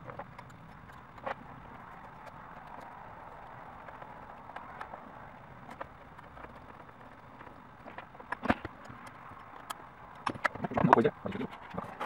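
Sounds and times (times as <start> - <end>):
small metallic clicks and taps: 0.0 - 5.0, 5.6 - 12.0.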